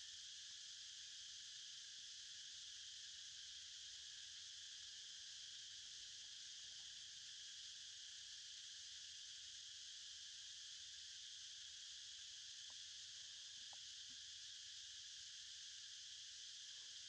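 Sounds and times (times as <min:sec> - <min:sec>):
insect chorus hissing: 0:00.0 - 0:17.0.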